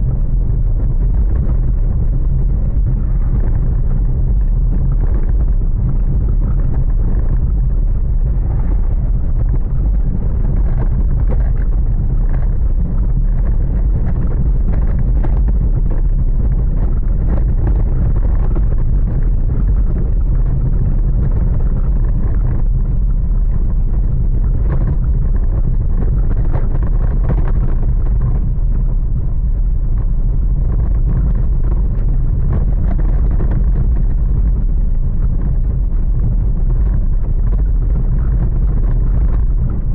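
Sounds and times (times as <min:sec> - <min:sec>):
dense crackle: 0:00.0 - 0:39.9
wind buffeting microphone: 0:00.0 - 0:39.9.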